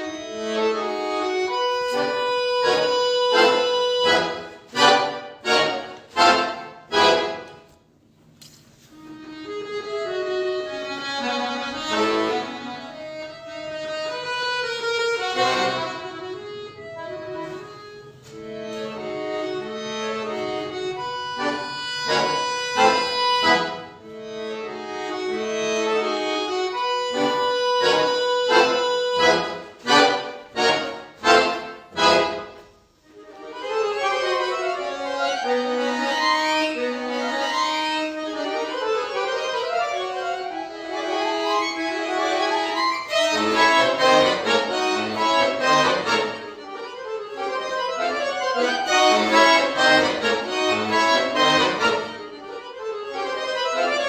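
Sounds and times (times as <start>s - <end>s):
accordion playing: 0.0s - 54.0s.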